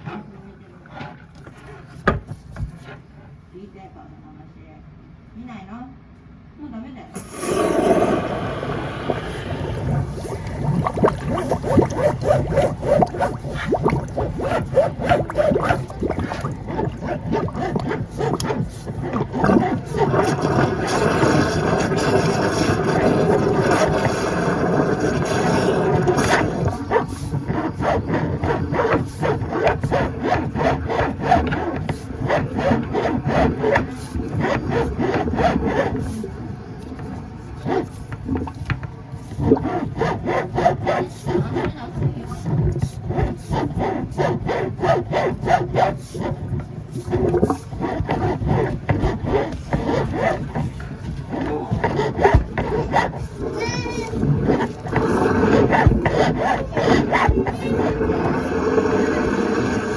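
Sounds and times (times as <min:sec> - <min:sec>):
water gurgling in drain pipe: 0:07.2 - 0:59.9.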